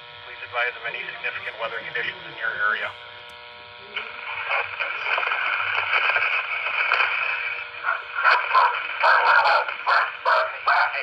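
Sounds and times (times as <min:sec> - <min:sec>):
loud static bursts: 0:00.0 - 0:11.0
radio static hiss: 0:00.0 - 0:11.0.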